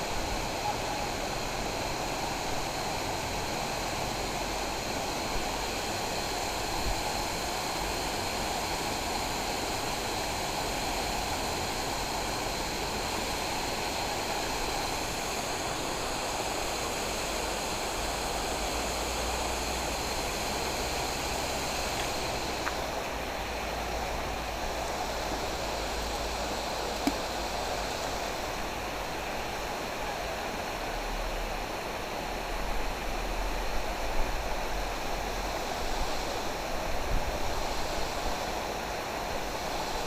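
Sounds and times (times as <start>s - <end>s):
flowing canal water: 0.0s - 40.0s.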